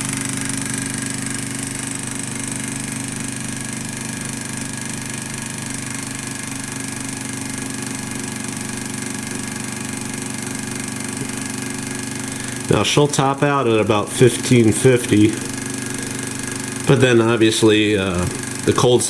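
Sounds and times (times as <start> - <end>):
small engine mechanical hum: 0.0 - 19.0.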